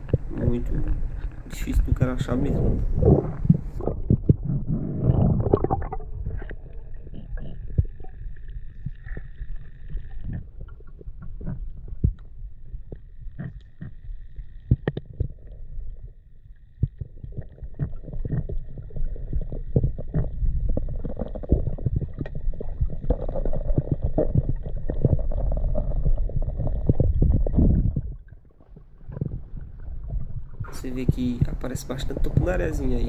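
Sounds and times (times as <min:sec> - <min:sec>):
underwater rumble and water movement: 0:00.0 - 0:33.0.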